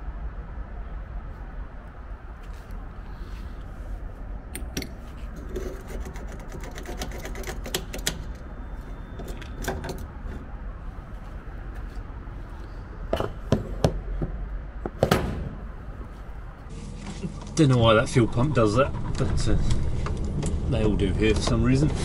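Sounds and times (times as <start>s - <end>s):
steady low rumble: 0.0s - 6.5s, 8.2s - 22.0s.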